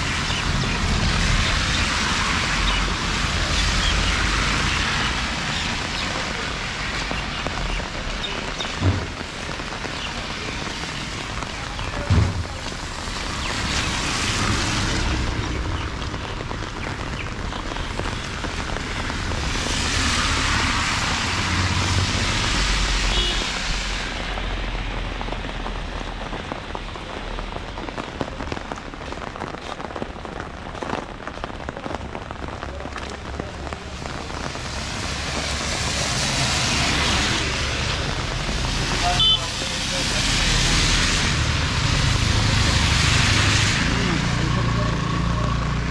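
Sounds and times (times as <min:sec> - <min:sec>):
car tyres hissing on wet road: 0:00.0 - 0:45.9
steady rain: 0:00.0 - 0:45.9.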